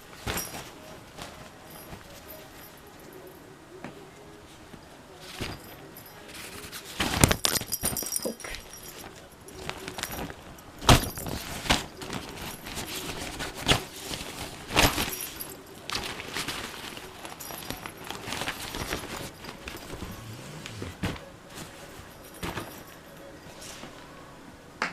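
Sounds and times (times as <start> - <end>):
rustling and scuffing: 0.0 - 3.0, 4.5 - 24.1.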